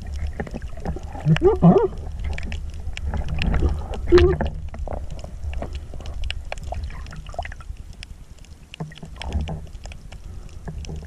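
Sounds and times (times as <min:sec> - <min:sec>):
small clicks and splashes: 0:00.0 - 0:11.0.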